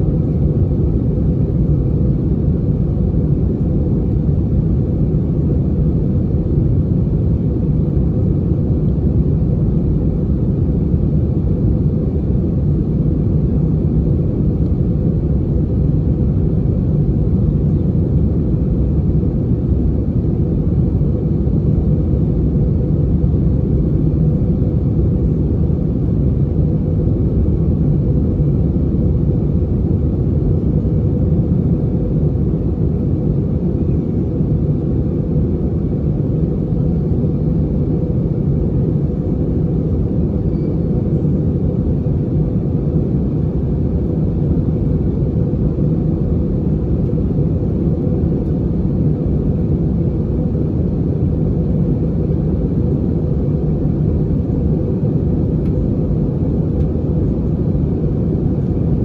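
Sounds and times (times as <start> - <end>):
faint steady hum: 0.0 - 59.0
jet engine and airflow rumble: 0.0 - 59.0.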